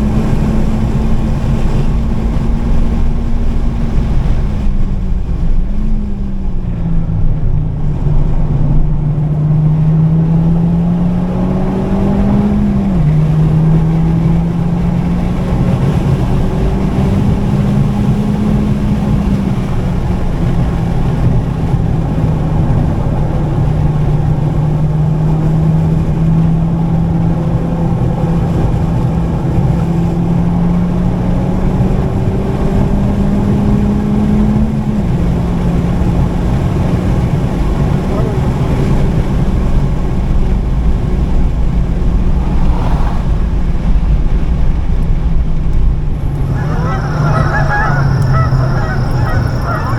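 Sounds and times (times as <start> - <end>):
car engine pulling hard: 0.0 - 49.9
road and wind noise: 0.0 - 49.9.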